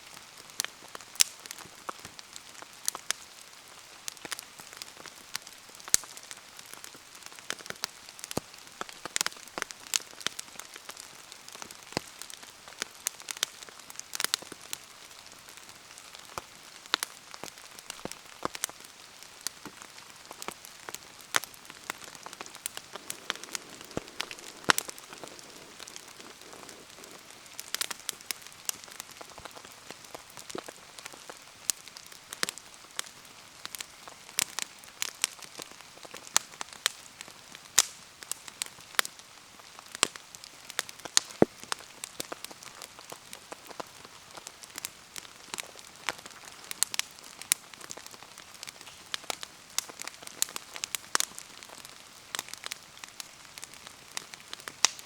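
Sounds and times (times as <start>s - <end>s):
bonfire crackling: 0.0s - 55.0s
rain pattering: 0.0s - 55.0s.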